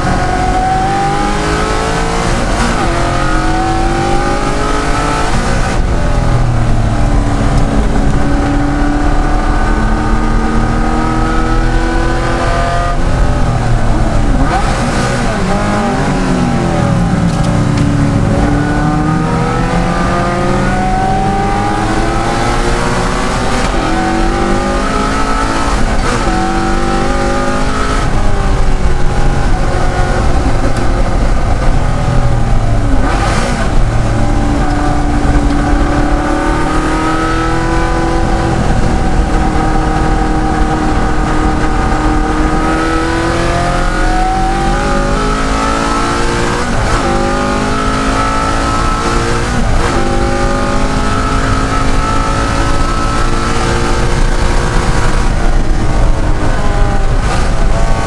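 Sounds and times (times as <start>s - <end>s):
gear changes: 0.0s - 58.0s
race car engine accelerating: 0.0s - 58.0s.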